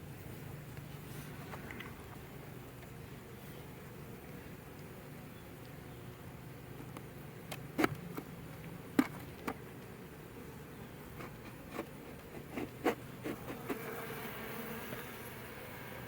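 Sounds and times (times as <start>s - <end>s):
honeybees buzzing: 1.3s - 16.0s.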